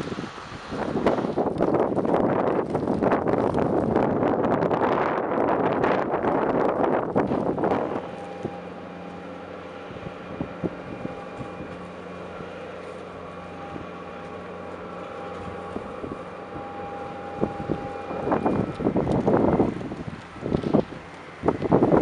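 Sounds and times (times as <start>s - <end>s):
steady machine hum: 3.8s - 22.0s.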